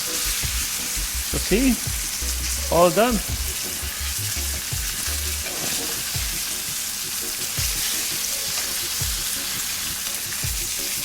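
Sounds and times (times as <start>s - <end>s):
fish fillets sizzling in a frying pan: 0.0s - 11.0s.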